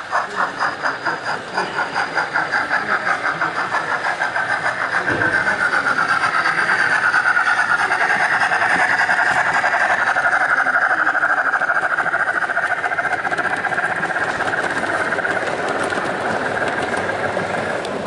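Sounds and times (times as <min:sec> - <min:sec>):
model steam train running past: 0:00.0 - 0:18.0.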